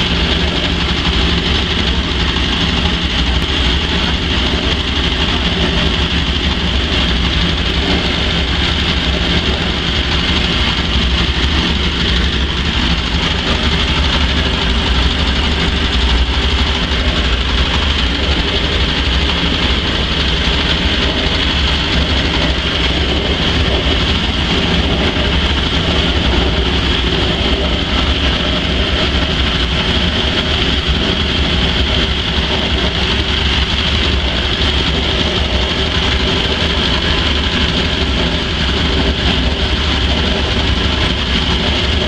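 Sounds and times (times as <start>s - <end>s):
machine motor drone: 0.0s - 42.0s.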